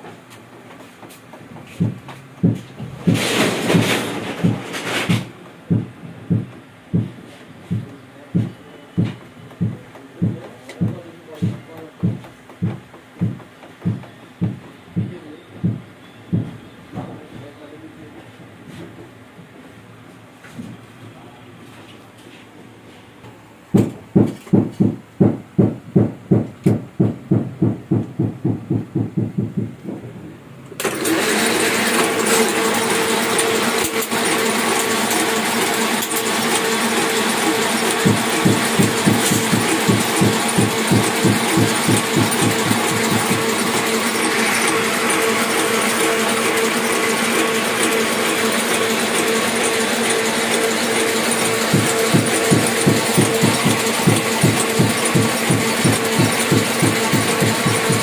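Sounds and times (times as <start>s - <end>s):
printing press thumping: 0.0s - 17.6s, 23.7s - 58.0s.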